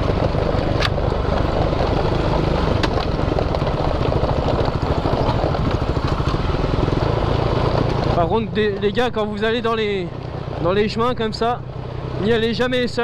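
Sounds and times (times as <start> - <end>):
tyre noise: 0.0 - 10.8
off-road vehicle engine running: 0.0 - 13.0.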